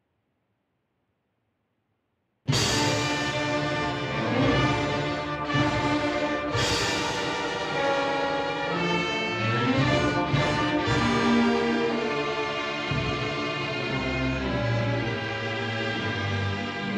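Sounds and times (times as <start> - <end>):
orchestral music led by brass: 2.5 - 16.9.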